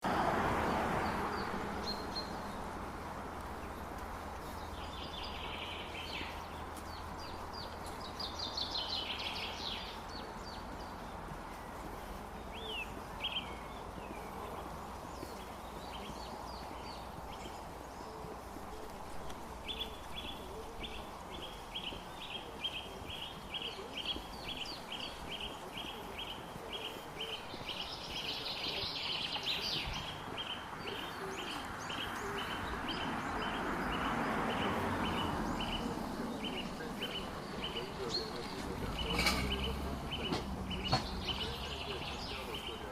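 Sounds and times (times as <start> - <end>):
wind in trees: 0.0 - 42.9
bird chirping: 3.6 - 42.9.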